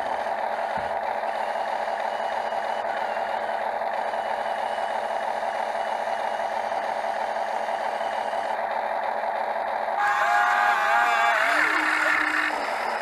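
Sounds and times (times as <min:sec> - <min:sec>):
heavy machinery diesel engine: 0:00.0 - 0:13.0.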